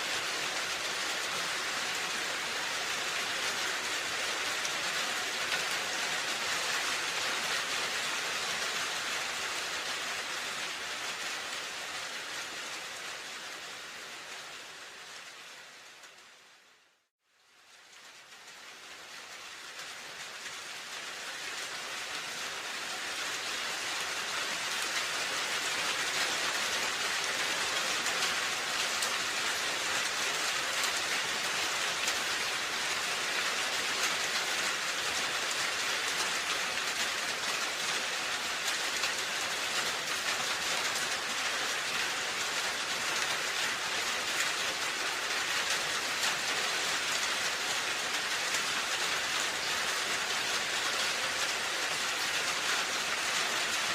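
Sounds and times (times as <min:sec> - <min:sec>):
rain on a roof: 0:00.0 - 0:53.9.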